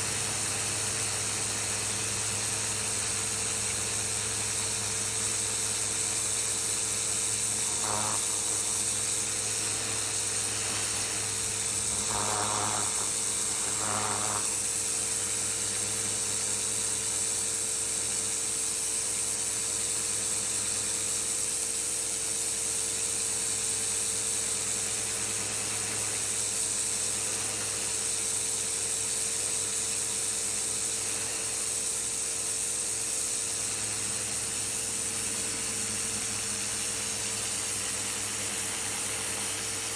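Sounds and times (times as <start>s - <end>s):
pressure washer jet hissing on concrete: 0.0s - 17.7s, 22.8s - 39.9s
motor and pump hum: 0.0s - 39.9s.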